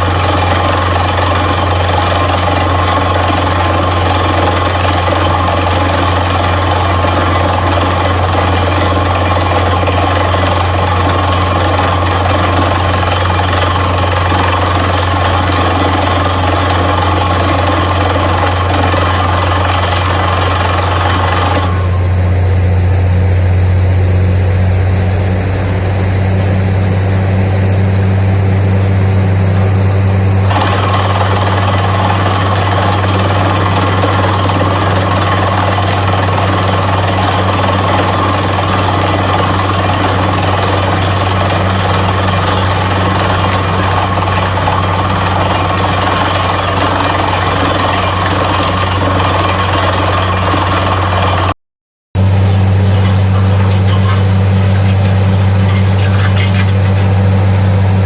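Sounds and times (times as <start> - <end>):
heavy engine drone: 0.0 - 51.6, 52.2 - 58.0.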